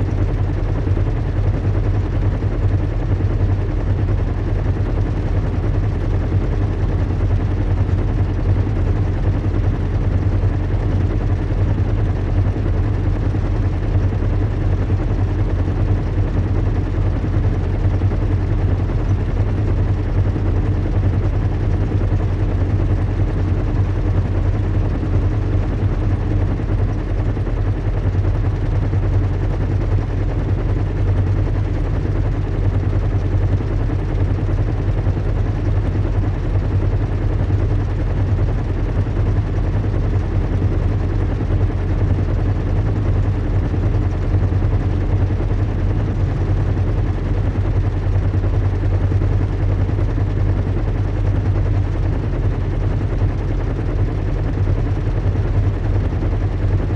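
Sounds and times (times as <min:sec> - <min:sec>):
low engine drone: 0:00.0 - 0:56.9.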